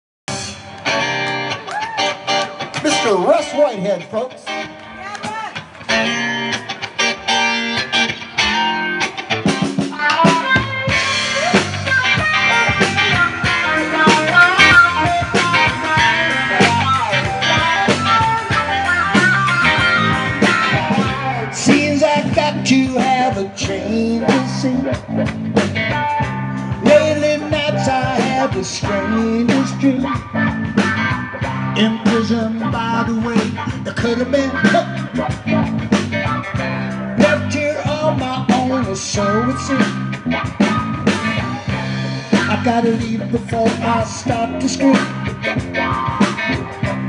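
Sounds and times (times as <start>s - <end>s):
live blues-rock band playing: 0.3s - 47.0s.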